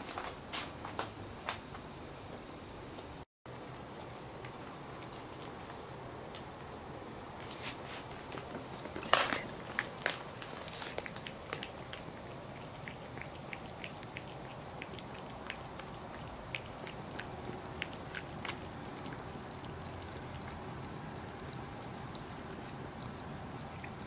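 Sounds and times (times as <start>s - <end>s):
cat licking and chewing: 3.5s - 6.7s, 7.5s - 24.0s.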